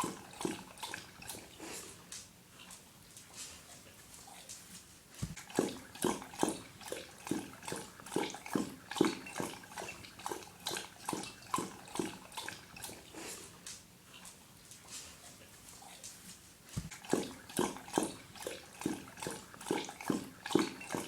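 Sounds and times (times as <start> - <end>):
dog lapping water: 0.0 - 4.1, 5.1 - 21.0.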